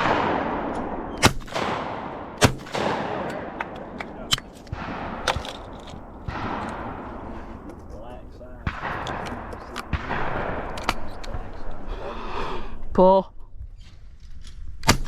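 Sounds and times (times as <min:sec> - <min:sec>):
shotgun shots echoing: 0:00.0 - 0:12.1.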